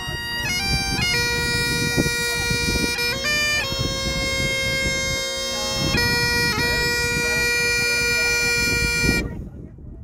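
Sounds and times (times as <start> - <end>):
bagpipes playing: 0.0 - 9.3.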